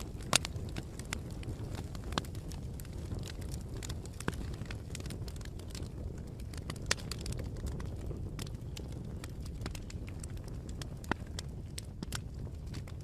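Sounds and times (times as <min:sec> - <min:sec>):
bonfire rumbling: 0:00.0 - 0:13.0
fire popping: 0:00.0 - 0:13.0.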